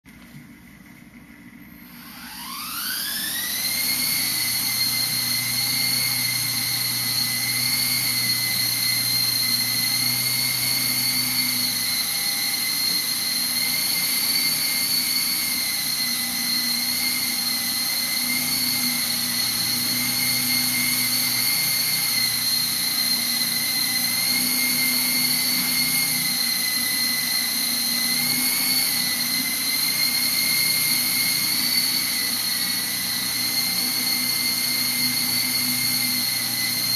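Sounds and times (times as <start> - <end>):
rc helicopter rotor whining: 1.2 - 36.9.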